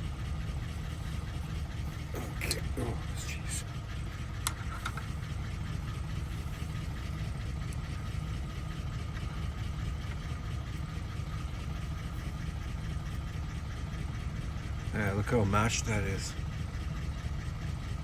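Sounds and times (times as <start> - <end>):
faint steady whine: 0.0 - 18.0
low mechanical rumble: 0.0 - 18.0.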